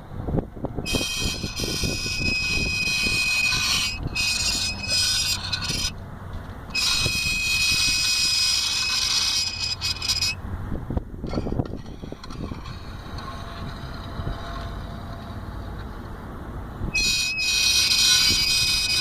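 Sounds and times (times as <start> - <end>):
metal squeal of brake disc rubbing: 0.8 - 6.0, 6.7 - 10.4, 11.3 - 16.0, 16.9 - 19.0.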